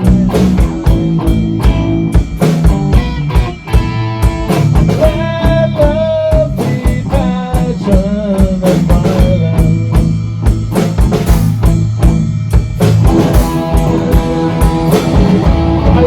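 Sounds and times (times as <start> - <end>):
lead electric guitar bent notes: 0.0 - 7.7, 9.1 - 16.0
bass guitar: 0.0 - 16.0
drum kit beat: 0.0 - 16.0.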